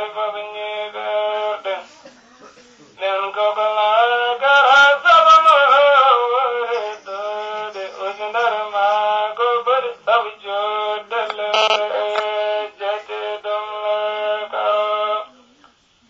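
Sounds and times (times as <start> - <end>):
man chanting a devotional song: 0.0 - 15.5.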